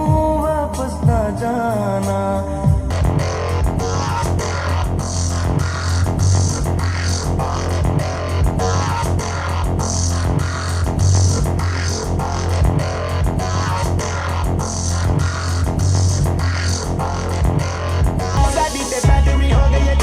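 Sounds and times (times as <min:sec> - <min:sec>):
electronic music with heavy bass: 0:00.0 - 0:20.0.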